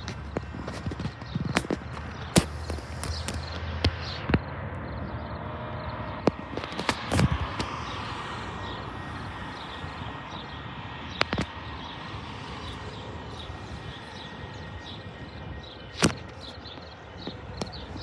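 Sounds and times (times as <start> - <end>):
traffic: 0.0 - 18.0
wind: 0.0 - 18.0.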